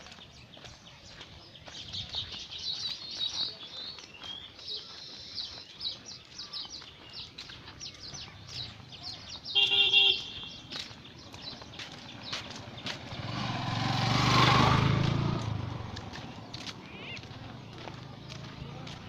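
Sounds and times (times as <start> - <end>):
small birds chirping and twittering: 0.0 - 19.0.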